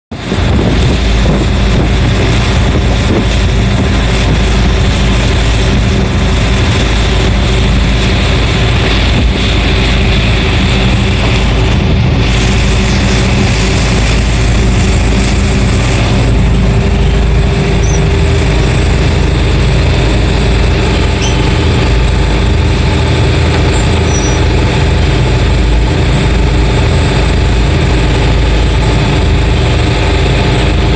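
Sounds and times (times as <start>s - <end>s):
boat engine running: 0.1s - 30.9s
rush of boat wake: 0.1s - 30.9s.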